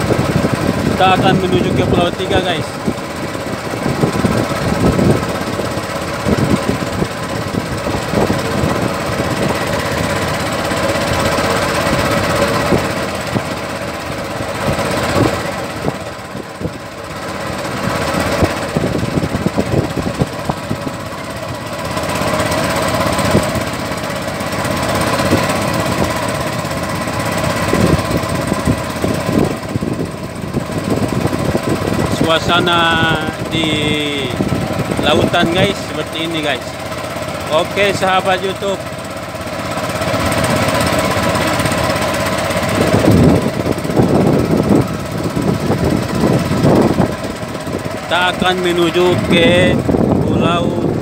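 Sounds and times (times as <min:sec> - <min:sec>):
wind noise: 0:00.0 - 0:13.6, 0:14.6 - 0:16.9, 0:17.7 - 0:21.3, 0:22.2 - 0:23.8, 0:25.2 - 0:35.9, 0:40.3 - 0:51.0
small boat engine running: 0:00.0 - 0:51.0
water noise: 0:00.0 - 0:51.0.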